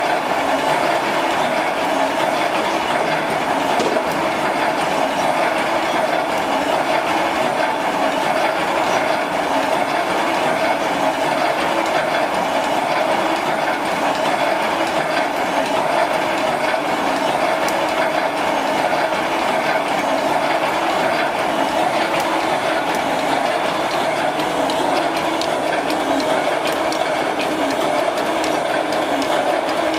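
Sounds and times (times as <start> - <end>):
wire mesh machine running: 0.0 - 29.9.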